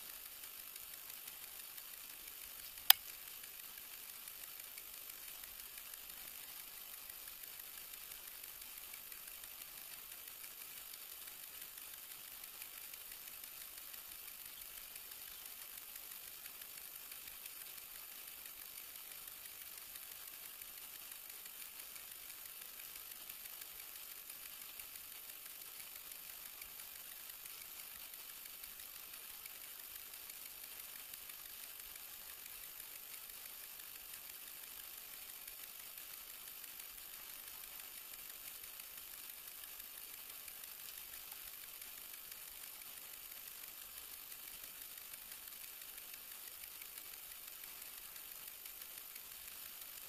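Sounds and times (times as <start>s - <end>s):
faint recording hiss: 0.0s - 50.0s.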